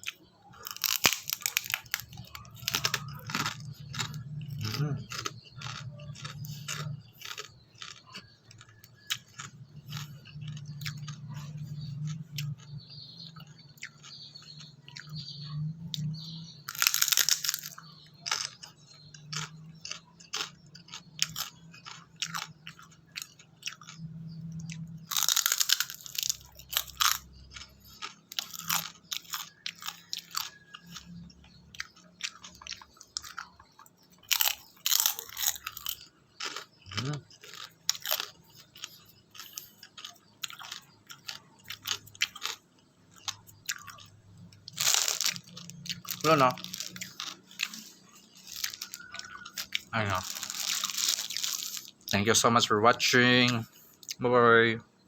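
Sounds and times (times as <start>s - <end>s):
crunching and chewing pork rinds: 0.0s - 55.0s.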